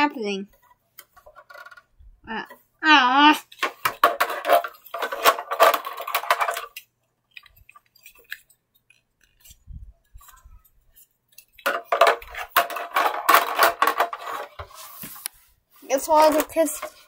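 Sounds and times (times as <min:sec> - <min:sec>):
plastic toys clattering and rattling: 0:00.2 - 0:02.7, 0:03.4 - 0:17.0.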